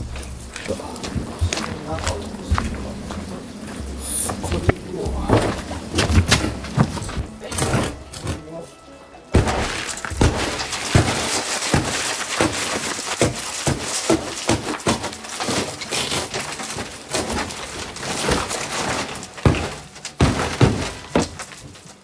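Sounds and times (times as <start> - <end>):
wood cracking and splintering: 0.0 - 22.0.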